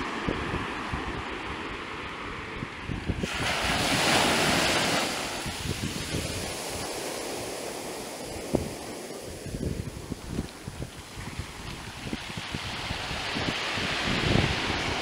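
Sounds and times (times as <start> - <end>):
surf breaking on beach: 0.0 - 15.0
wind rumble on microphone: 0.0 - 15.0.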